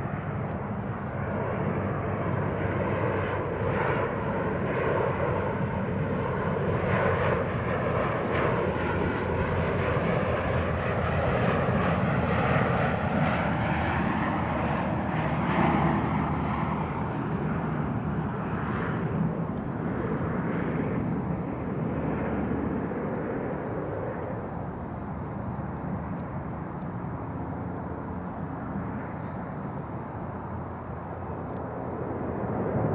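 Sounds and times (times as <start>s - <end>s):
turboprop engines droning: 0.0s - 32.9s.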